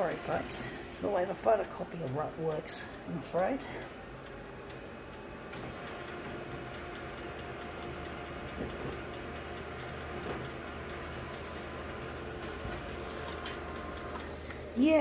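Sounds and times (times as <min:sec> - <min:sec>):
photocopier humming: 0:00.0 - 0:15.0.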